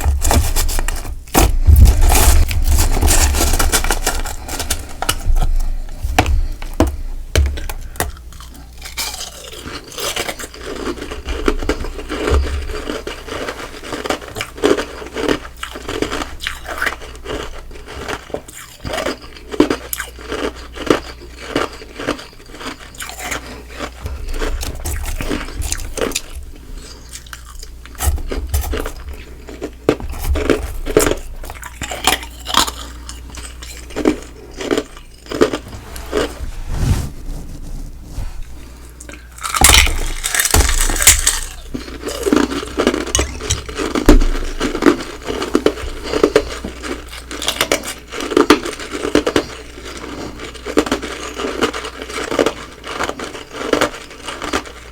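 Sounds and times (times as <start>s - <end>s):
chewing ice crunches: 0.0s - 36.2s, 39.0s - 54.9s.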